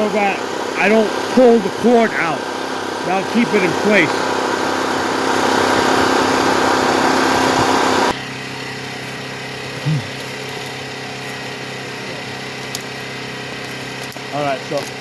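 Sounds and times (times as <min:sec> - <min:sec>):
high power tool whir: 0:00.0 - 0:15.0
portable generator running: 0:00.0 - 0:15.0.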